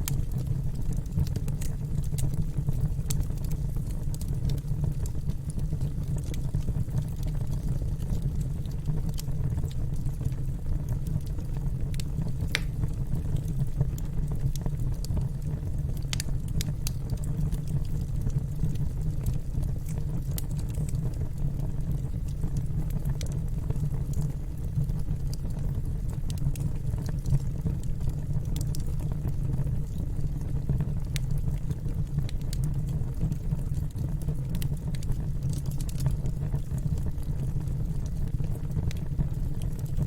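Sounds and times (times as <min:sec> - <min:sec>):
fire crackling and popping: 0:00.0 - 0:40.0
low fire rumble: 0:00.0 - 0:40.0.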